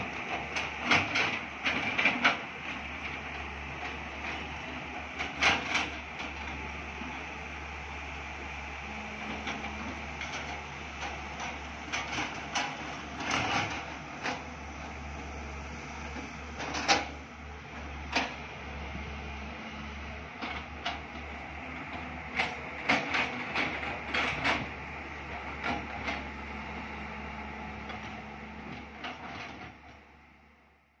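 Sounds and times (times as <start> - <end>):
excavator diesel engines running: 0.0 - 31.0.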